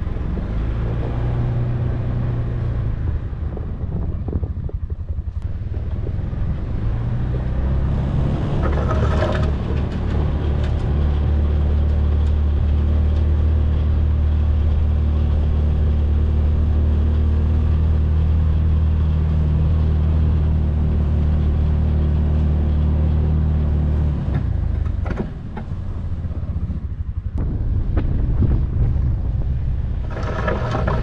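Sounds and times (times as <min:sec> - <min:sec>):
vehicle engine under load: 0:00.0 - 0:31.0.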